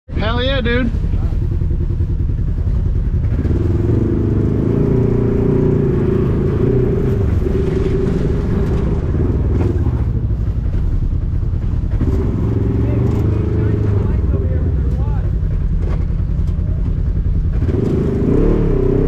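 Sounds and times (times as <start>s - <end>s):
engine revving: 0.2s - 19.0s.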